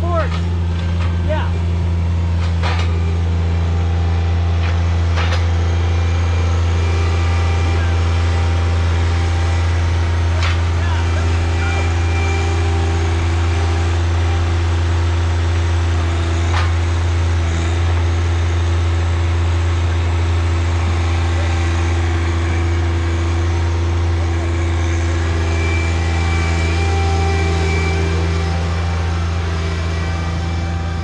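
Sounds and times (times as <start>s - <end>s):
engine droning steadily: 0.0s - 31.0s.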